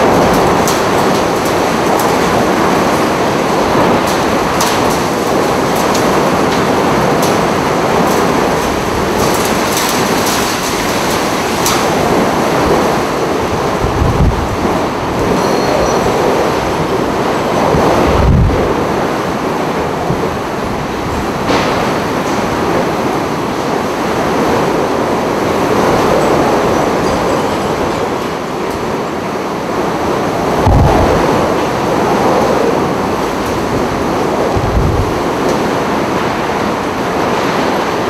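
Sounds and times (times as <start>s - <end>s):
driving rain: 0.0s - 38.0s
hurricane wind: 0.0s - 38.0s
wind buffeting microphone: 0.0s - 38.0s.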